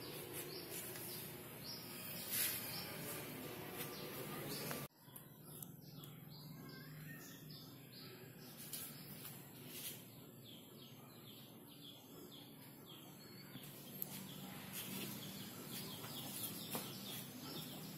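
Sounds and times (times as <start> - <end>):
birds chirping: 0.0 - 17.9
faint outdoor background noise: 0.0 - 17.9.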